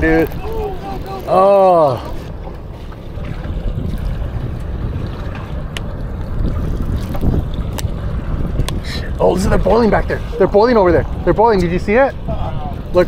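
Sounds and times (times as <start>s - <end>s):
water lapping at hull: 0.0s - 13.0s
wind rumbling on microphone: 0.0s - 13.0s.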